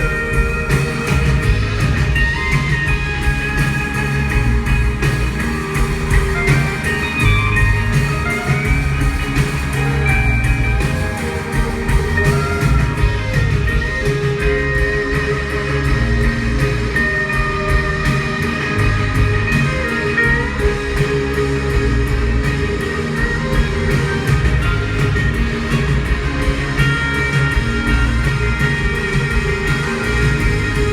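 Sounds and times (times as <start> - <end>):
lead guitar: 0.0 - 30.9
live instrumental band music: 0.0 - 30.9.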